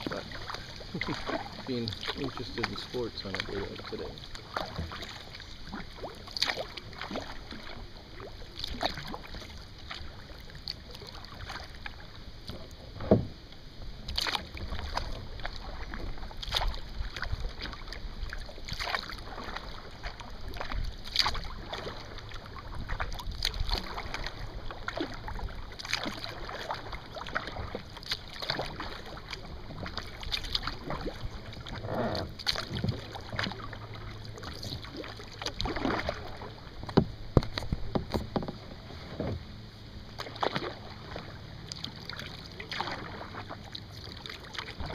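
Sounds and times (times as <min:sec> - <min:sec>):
paddle splashing in water: 0:00.0 - 0:44.9.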